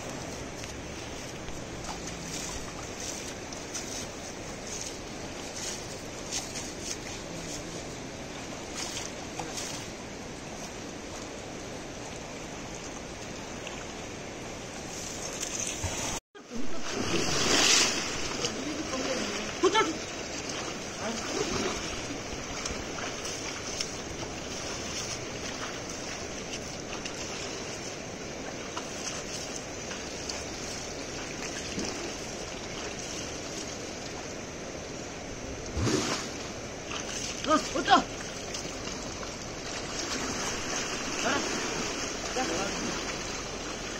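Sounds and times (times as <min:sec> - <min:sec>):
shallow river water rushing: 0:00.0 - 0:43.9
water swishes: 0:00.0 - 0:43.9.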